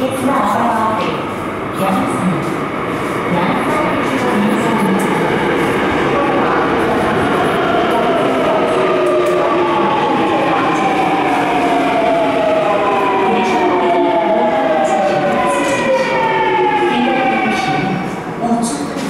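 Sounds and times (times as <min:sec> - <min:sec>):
rumble of train cars: 0:00.0 - 0:19.0.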